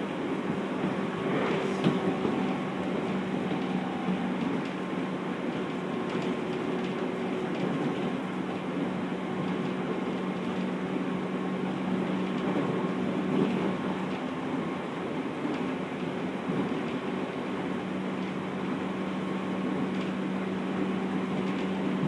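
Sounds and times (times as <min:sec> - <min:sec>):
train motor and gear hum: 0:00.0 - 0:22.0
train wheels rumbling on rail: 0:00.0 - 0:22.0.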